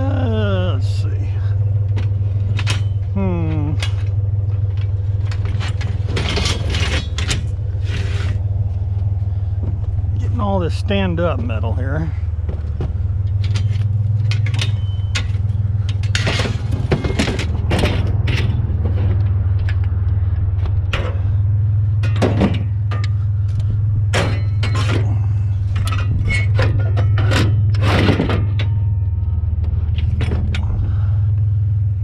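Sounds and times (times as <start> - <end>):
vehicle engine idling: 0.0 - 32.0
scrap metal clanking: 1.3 - 19.8, 20.8 - 31.6.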